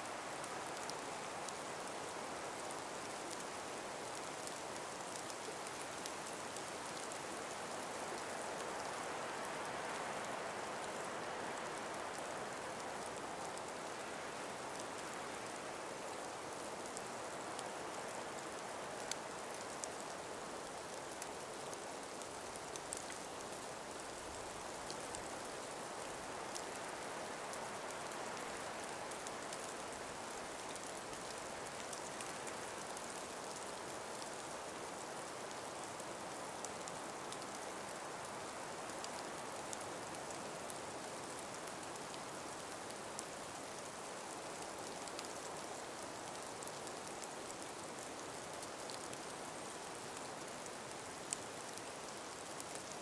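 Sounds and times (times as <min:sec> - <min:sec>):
breeze through snowy forest: 0:00.0 - 0:53.0
faint scattered ticks: 0:00.0 - 0:53.0.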